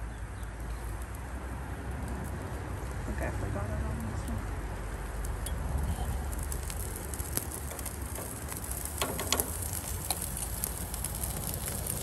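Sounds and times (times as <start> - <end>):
low grill rumble: 0.0 - 12.0
seafood sizzling on a grill: 0.0 - 12.0.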